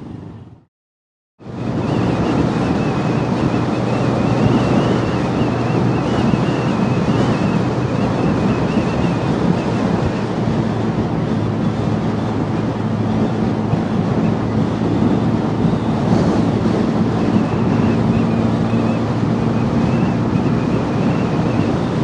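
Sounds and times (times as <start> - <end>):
wind rushing over microphone: 0.0 - 0.7, 1.4 - 22.0.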